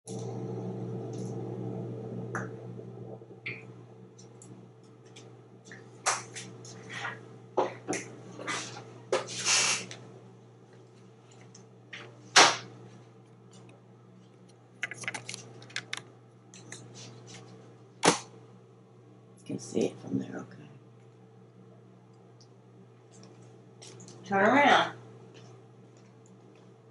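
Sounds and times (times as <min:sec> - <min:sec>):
low steady hum: 0:00.1 - 0:26.9.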